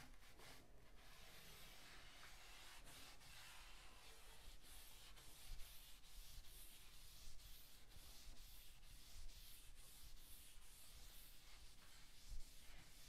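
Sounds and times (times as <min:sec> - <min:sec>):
steel wool scrubbing wood: 0:00.3 - 0:13.0.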